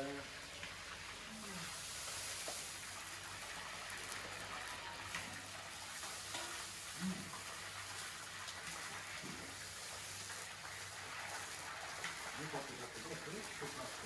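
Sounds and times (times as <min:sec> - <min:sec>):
meat frying in hot oil: 0:00.0 - 0:14.0.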